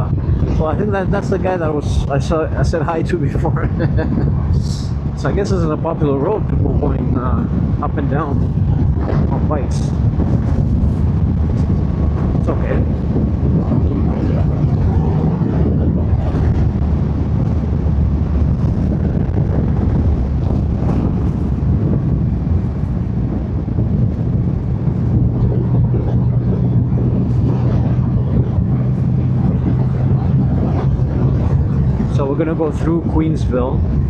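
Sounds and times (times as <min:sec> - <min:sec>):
wind rush: 0:00.0 - 0:34.0.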